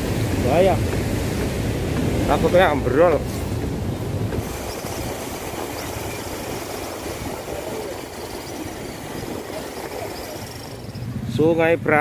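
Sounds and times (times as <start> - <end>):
river rushing: 0.0 - 11.4.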